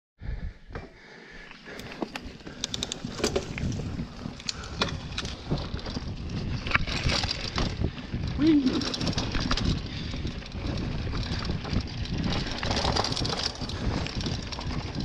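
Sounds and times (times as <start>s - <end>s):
bike tyre noise: 0.6s - 15.0s
bike clicks and rattles: 0.7s - 15.0s
wind rumble on microphone: 2.3s - 15.0s.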